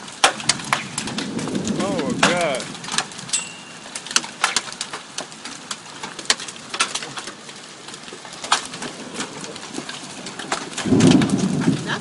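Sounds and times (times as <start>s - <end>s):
hailstones pelting cars and ground: 0.0s - 12.0s.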